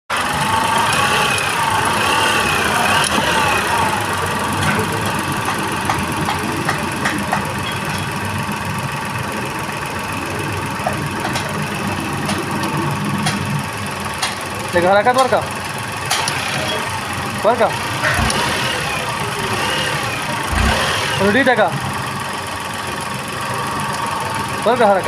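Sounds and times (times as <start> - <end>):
car engine idling: 0.1 - 25.0.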